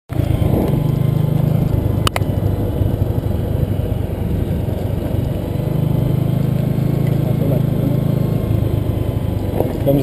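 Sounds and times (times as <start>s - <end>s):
road noise: 0.1s - 10.0s
vehicle engine low hum: 0.1s - 10.0s.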